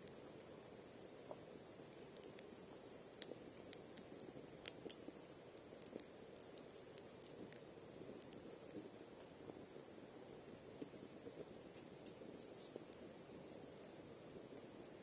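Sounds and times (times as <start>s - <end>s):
campfire crackling and popping: 0.0s - 15.0s
faint low hiss: 0.0s - 15.0s.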